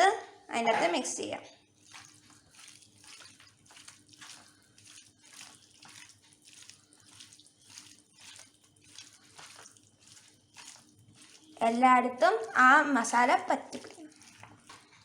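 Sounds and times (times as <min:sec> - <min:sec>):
wet squelching of raw chicken: 0:01.6 - 0:15.0.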